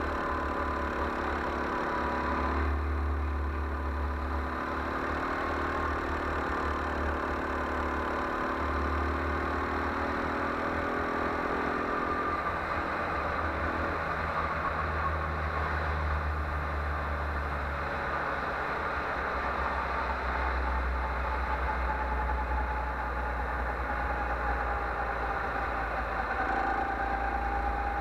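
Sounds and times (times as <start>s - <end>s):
go-kart engine running: 0.0s - 28.0s.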